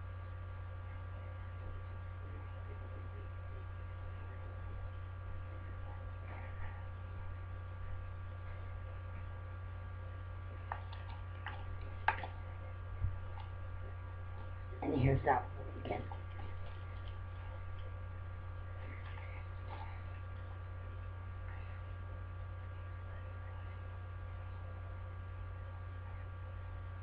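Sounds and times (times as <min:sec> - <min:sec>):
faint whining tones: 0:00.0 - 0:27.0
low electrical hum: 0:00.0 - 0:27.0.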